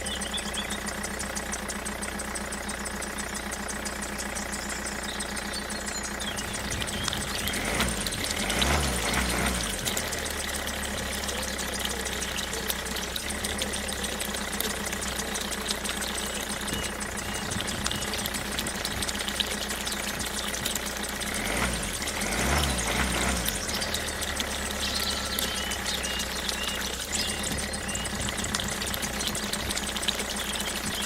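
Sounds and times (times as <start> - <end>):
small model engine running: 0.0 - 31.0.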